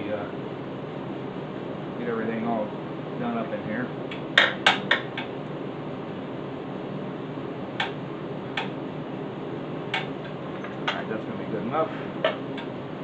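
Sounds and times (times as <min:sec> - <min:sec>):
steady shop hum: 0:00.0 - 0:13.0.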